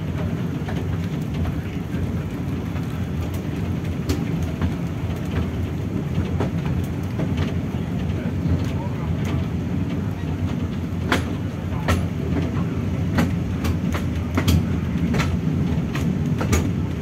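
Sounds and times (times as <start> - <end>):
wheels clicking on rails: 0.0 - 17.0.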